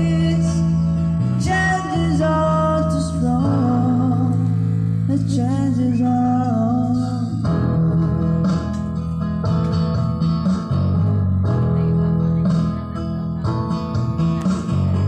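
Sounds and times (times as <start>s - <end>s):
bass line: 0.0s - 15.0s
guitar chords: 0.0s - 15.0s.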